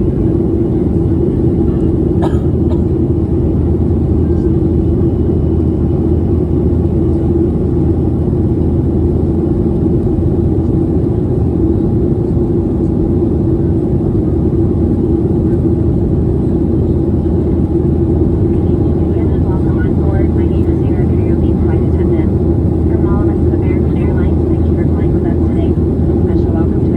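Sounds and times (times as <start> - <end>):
constant low hum: 0.0 - 26.9
jet airliner cabin roar: 0.0 - 26.9.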